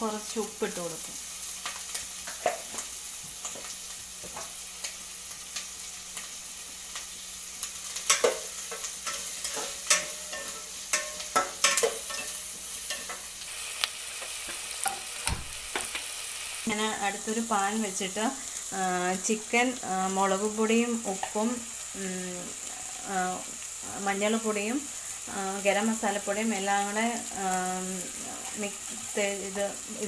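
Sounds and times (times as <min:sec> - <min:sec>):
onions sizzling in butter: 0:00.0 - 0:30.0.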